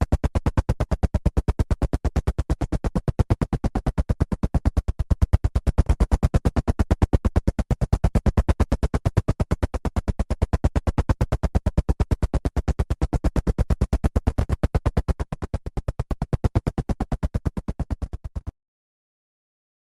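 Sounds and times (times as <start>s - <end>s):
helicopter rotor chop: 0.0s - 18.5s.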